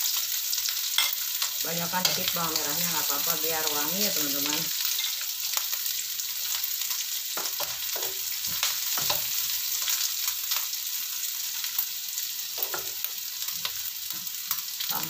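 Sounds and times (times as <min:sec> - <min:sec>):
food sizzling in oil in a wok: 0:00.0 - 0:15.0.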